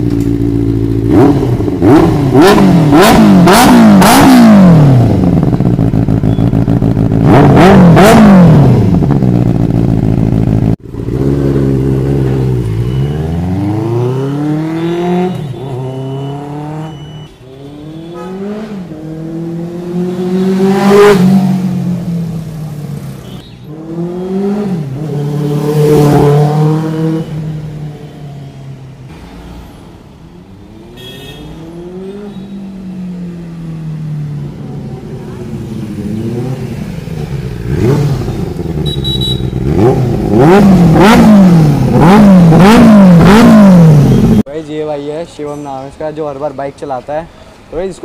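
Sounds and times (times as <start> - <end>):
motorcycle engine revving: 0.0 - 27.9, 30.8 - 44.5.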